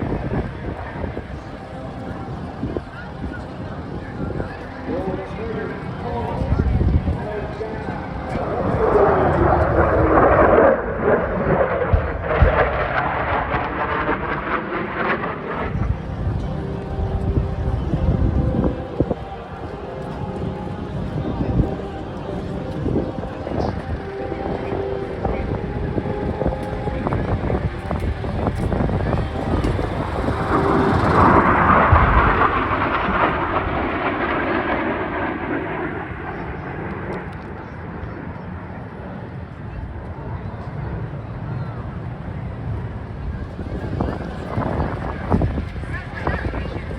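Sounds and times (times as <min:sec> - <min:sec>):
jet aircraft flying past: 0:00.0 - 0:46.9.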